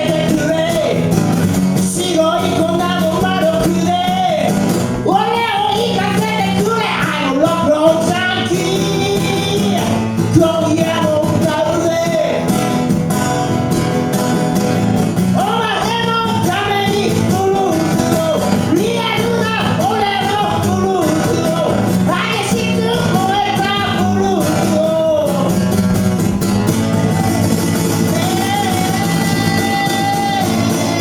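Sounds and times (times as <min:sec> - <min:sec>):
amplified rock instruments: 0:00.0 - 0:31.0
person singing: 0:01.8 - 0:12.5, 0:15.3 - 0:25.8, 0:26.8 - 0:31.0.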